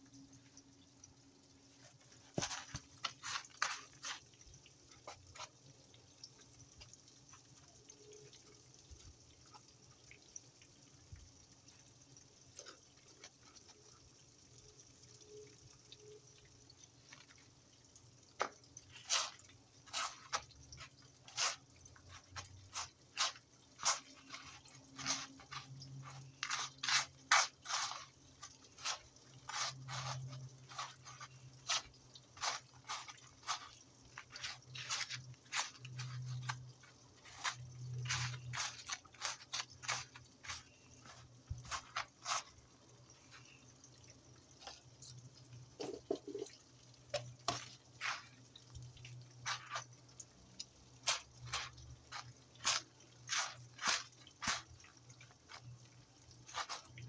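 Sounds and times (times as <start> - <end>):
breadcrumbs crackling and rustling: 1.6 - 14.3, 16.6 - 57.0.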